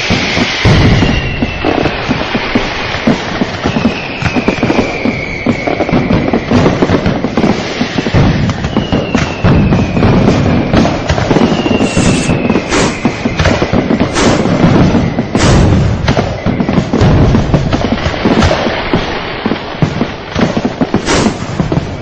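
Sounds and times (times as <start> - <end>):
fireworks crackling and bangs: 0.0 - 22.0
whistling rockets: 0.0 - 22.0.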